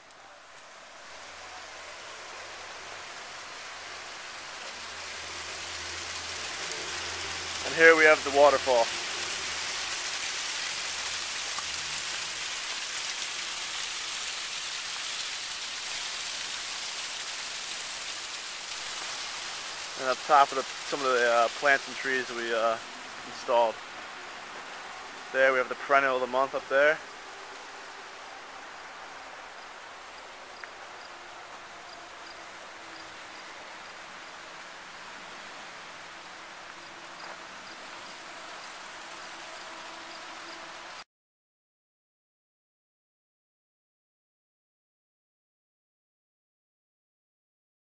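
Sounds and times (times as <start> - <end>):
waterfall splashing and rushing: 0.0 - 41.0.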